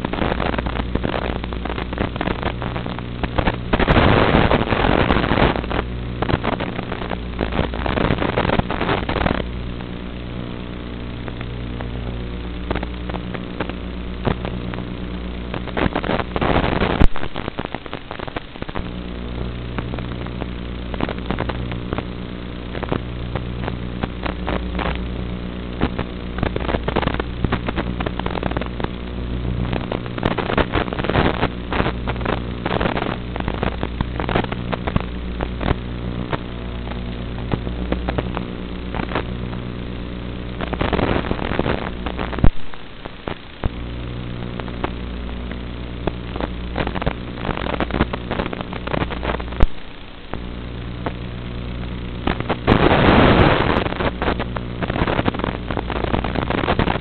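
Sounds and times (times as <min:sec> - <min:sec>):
droning buzz with crackling static: 0:00.0 - 0:57.0.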